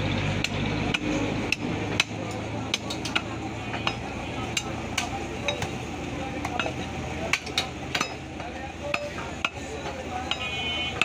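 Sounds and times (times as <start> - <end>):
cleavers chopping meat on wood: 0.4 - 11.0.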